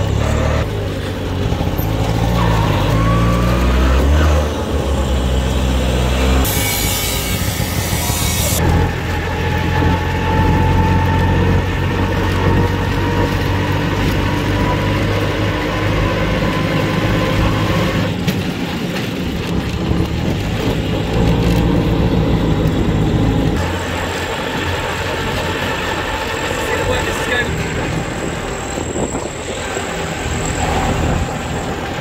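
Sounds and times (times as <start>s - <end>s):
car engine hum: 0.0s - 32.0s
road noise inside car: 0.0s - 32.0s.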